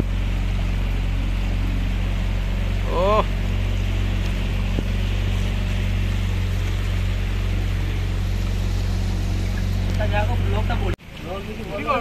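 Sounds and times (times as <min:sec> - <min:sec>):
motorboat engine droning: 0:00.0 - 0:12.0
water rushing: 0:00.0 - 0:12.0.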